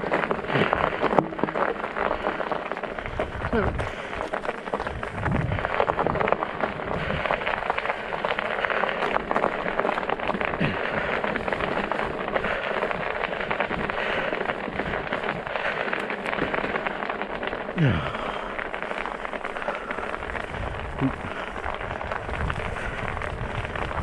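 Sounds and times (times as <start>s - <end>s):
studded tires crackling on ice: 0.0s - 24.0s.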